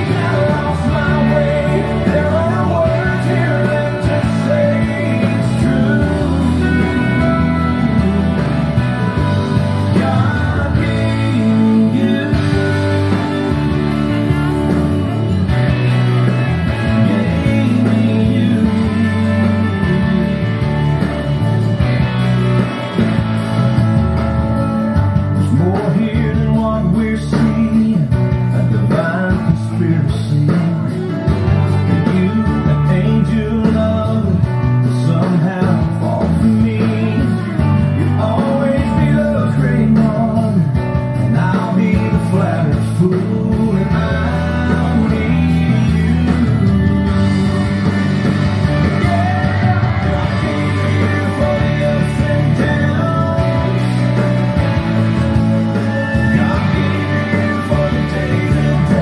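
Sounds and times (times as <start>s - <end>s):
rock song with guitar and singing: 0.0s - 59.0s.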